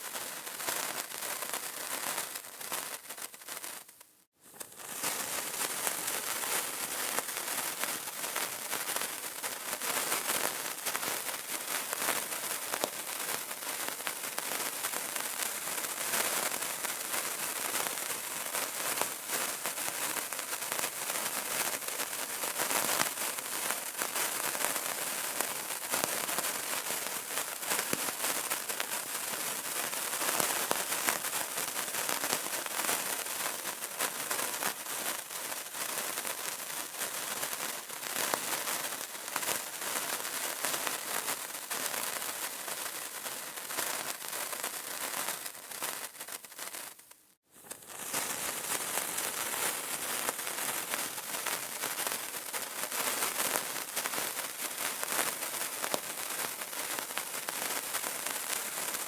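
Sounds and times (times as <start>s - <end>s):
candle crackling: 0.0s - 59.0s.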